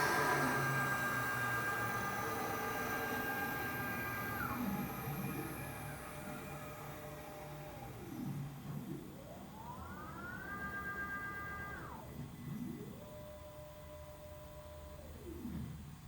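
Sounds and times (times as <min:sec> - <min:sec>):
router motors whining: 0:00.0 - 0:13.0.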